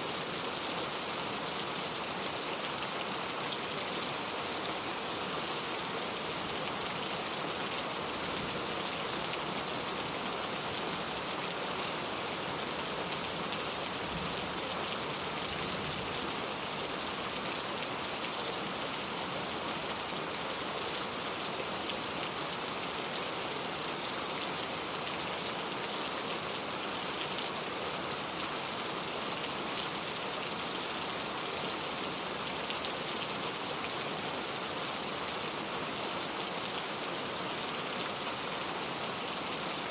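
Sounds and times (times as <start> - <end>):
rain falling: 0.1 - 39.9.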